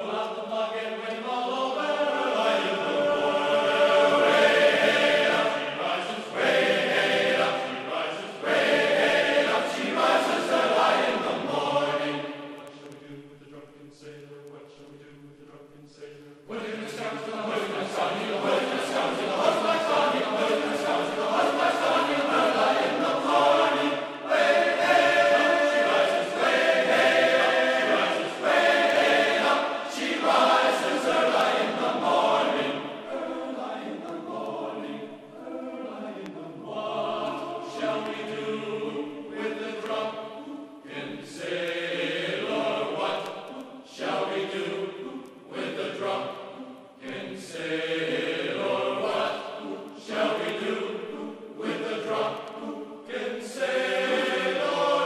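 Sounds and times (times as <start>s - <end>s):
choir chanting: 0.0s - 55.0s.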